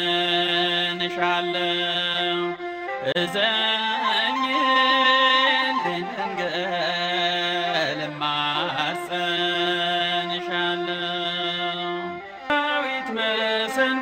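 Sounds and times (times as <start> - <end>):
musical accompaniment: 0.0 - 14.0
person singing a hymn: 0.0 - 14.0.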